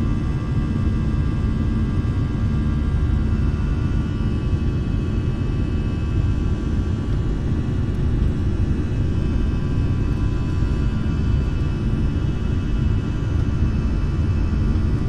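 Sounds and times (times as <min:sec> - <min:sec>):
engine and airflow rumble: 0:00.0 - 0:15.0.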